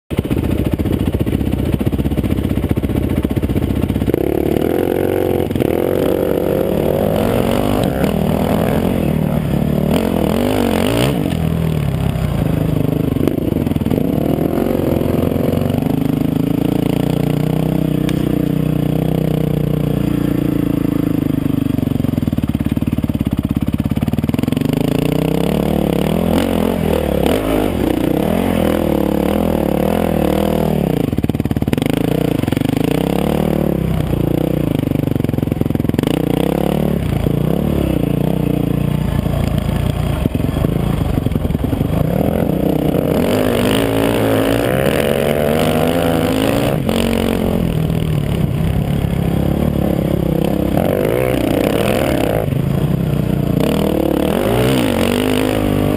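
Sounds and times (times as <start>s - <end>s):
dirt bike engine revving: 0.1s - 55.9s.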